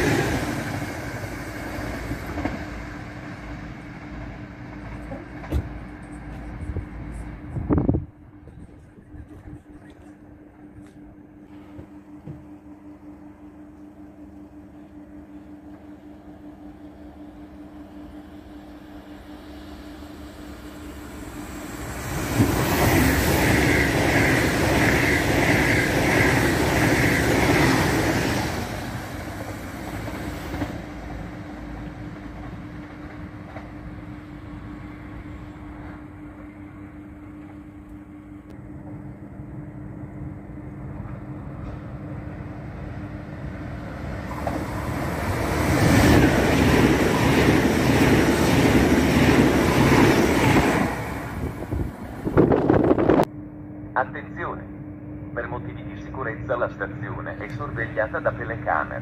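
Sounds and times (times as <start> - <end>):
train passing at speed: 0.0 - 53.3, 54.0 - 59.0.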